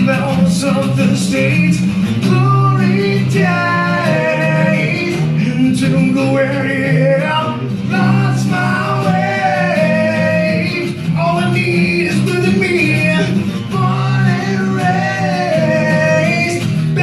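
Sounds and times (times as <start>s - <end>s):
man singing long notes: 0.0s - 17.0s
strummed acoustic guitar: 0.0s - 17.0s.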